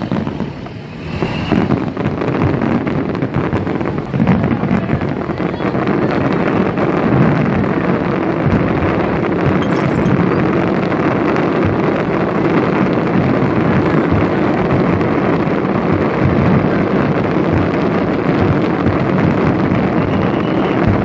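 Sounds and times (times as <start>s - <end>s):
fireworks booming and crackling: 0.0s - 21.0s
fountain fireworks: 0.0s - 21.0s
small sharp firework cracks: 0.0s - 21.0s.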